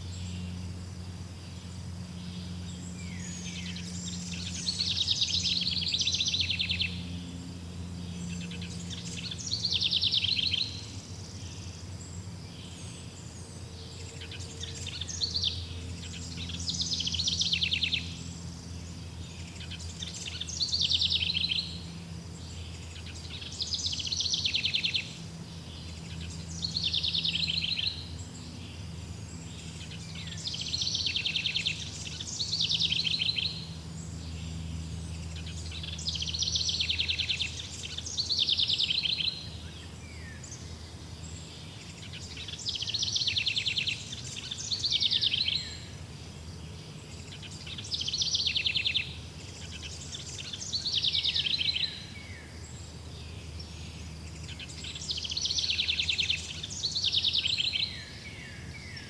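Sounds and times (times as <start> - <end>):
steady low hum: 0.0 - 59.0
songbird trilling: 1.4 - 59.0.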